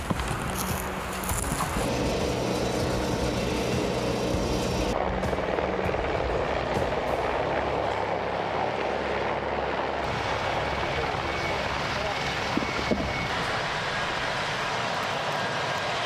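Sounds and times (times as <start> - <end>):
helicopter flying low overhead: 0.0 - 16.0.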